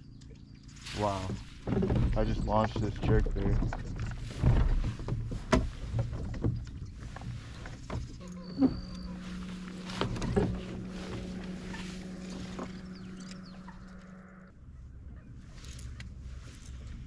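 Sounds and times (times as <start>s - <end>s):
steady low hum: 0.0s - 17.0s
water noise: 0.8s - 14.6s.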